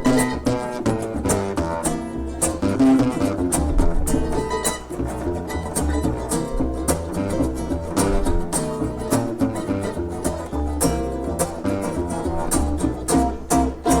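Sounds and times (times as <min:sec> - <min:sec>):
low bass line: 0:00.0 - 0:14.0
picked acoustic guitar: 0:00.0 - 0:14.0
plucked strings: 0:00.0 - 0:14.0.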